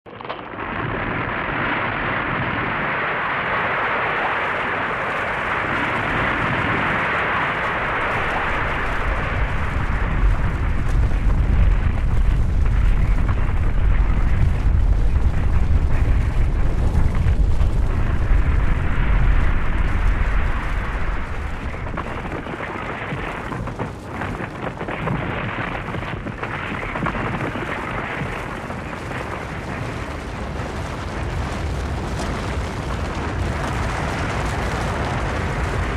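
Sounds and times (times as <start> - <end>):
avalanche rushing rumble: 0.1 - 35.9.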